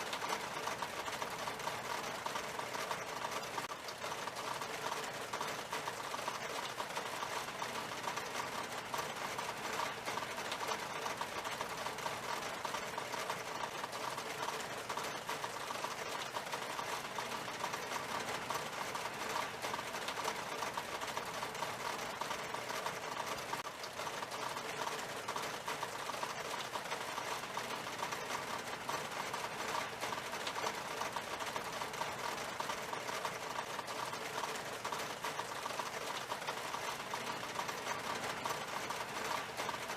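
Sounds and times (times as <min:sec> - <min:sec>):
rain on window glass: 0:00.0 - 0:39.9.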